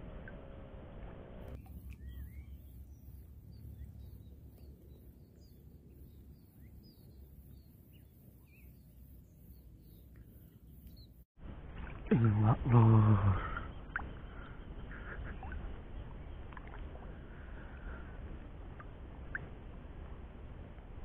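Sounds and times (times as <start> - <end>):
low steady rumble: 0.0 - 10.7, 11.4 - 21.0
small birds chirping: 1.5 - 20.6.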